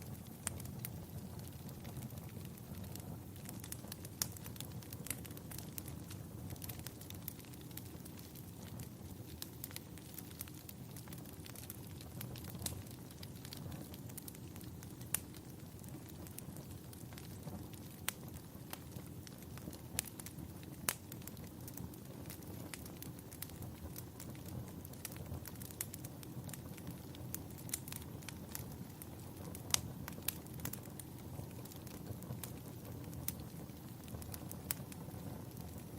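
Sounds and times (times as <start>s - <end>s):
fire crackling and popping: 0.0s - 35.9s
low rumble of flames: 0.0s - 35.9s.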